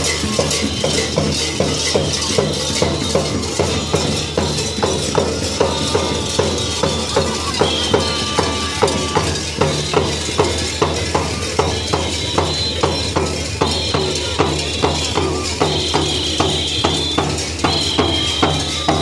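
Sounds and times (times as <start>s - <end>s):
drums beating steady rhythm: 0.0s - 19.0s.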